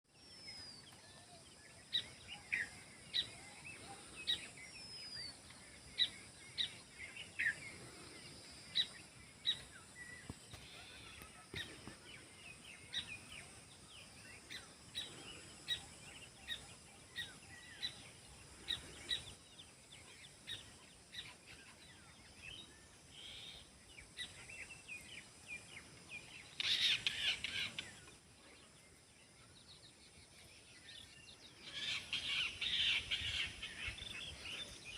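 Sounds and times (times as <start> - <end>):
small birds chirping: 0.1 - 34.9
steady background hiss: 0.2 - 34.9.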